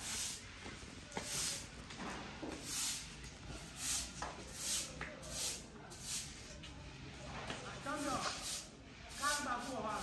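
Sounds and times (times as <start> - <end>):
stiff broom sweeping concrete: 0.0 - 6.6, 7.3 - 10.0.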